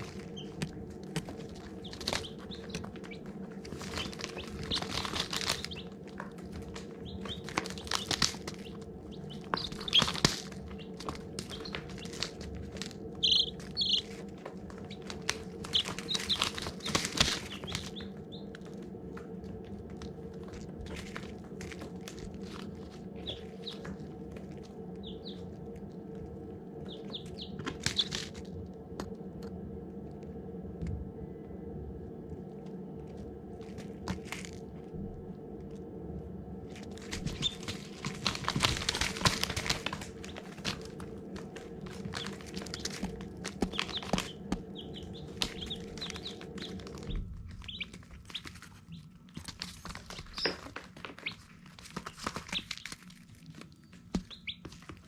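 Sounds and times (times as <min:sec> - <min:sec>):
rustling: 0:00.0 - 0:28.8, 0:36.6 - 0:55.0
baby chicks peeping: 0:00.0 - 0:30.2, 0:32.3 - 0:35.8, 0:36.6 - 0:55.0
low hum: 0:00.0 - 0:55.0.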